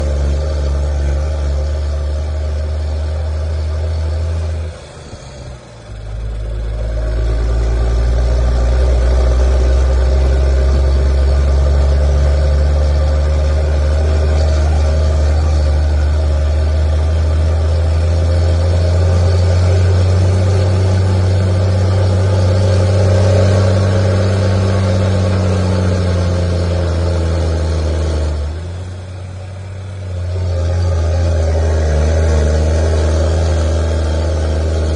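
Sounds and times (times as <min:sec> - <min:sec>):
truck engine rumbling: 0:00.0 - 0:34.9.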